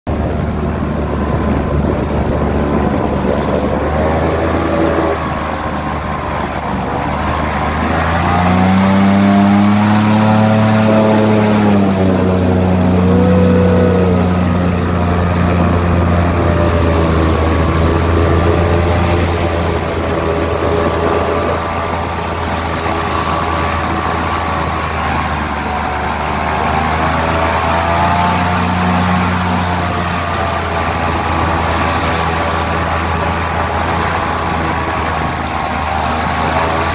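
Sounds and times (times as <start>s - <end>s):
airboat engine and propeller: 0.1s - 36.9s.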